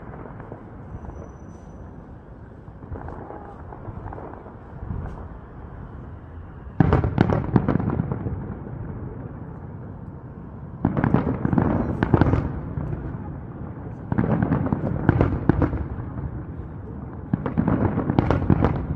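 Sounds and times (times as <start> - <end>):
fireworks cracking and banging: 0.0 - 9.9, 10.7 - 18.9.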